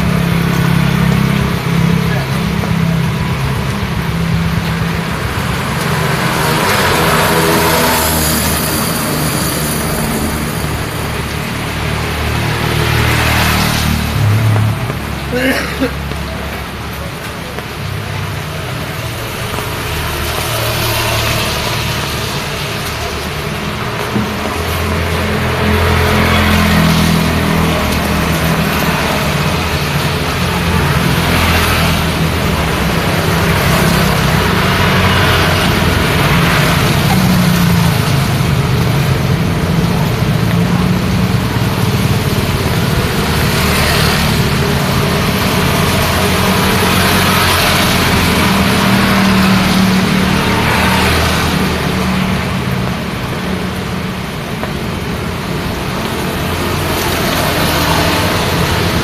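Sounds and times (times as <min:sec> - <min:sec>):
passing vehicles on wet road: 0:00.0 - 0:59.0.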